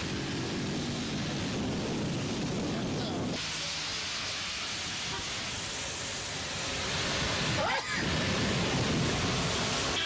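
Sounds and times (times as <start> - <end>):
heavy rain hissing: 0.0 - 10.0
traffic rumbling on wet road: 0.0 - 10.0.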